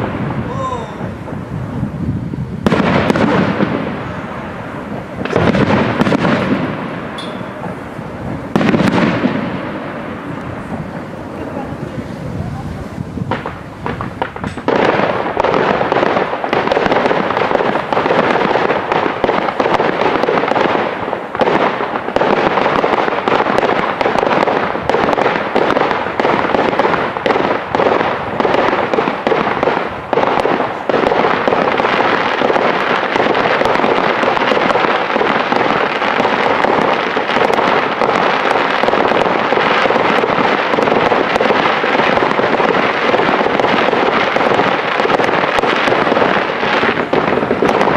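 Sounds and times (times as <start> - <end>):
fireworks crackling: 0.0 - 47.9.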